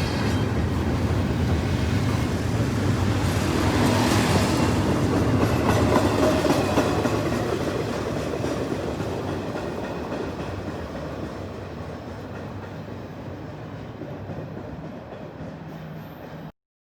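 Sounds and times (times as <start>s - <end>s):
freight train rolling past: 0.0s - 16.5s
train wheel clatter: 0.0s - 16.5s.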